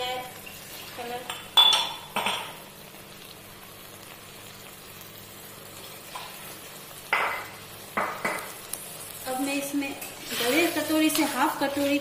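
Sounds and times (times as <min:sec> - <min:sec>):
beans sizzling in a pan: 0:00.0 - 0:12.0.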